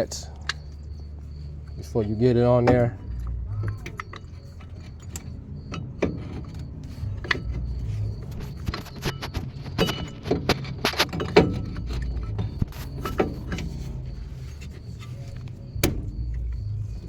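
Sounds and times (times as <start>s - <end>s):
metallic clicks of brake parts: 0.0s - 17.0s.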